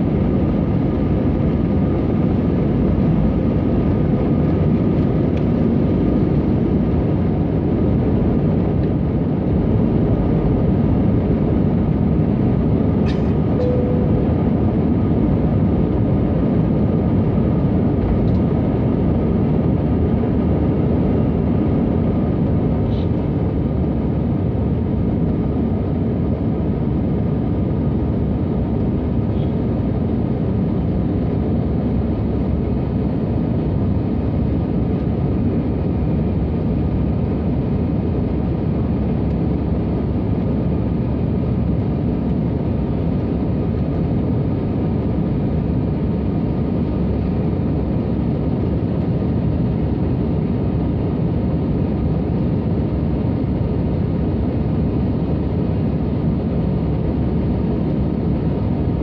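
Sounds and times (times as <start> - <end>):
airplane cabin engine roar: 0.0 - 59.0.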